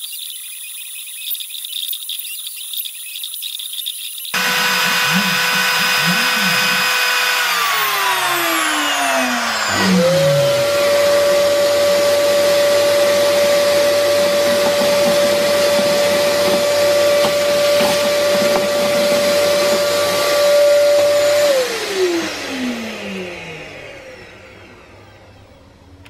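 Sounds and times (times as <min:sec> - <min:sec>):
vacuum cleaner running: 0:04.4 - 0:26.0
vacuum motor winding down: 0:04.4 - 0:26.0.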